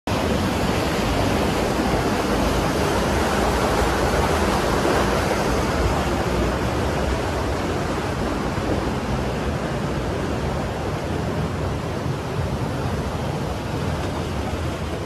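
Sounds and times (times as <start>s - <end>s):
creek water rushing: 0.1s - 15.0s.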